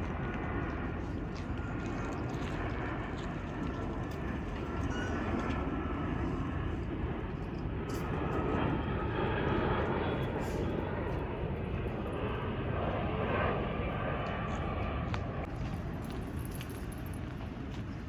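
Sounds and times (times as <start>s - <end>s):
jet airliner engines rushing: 0.0s - 18.0s.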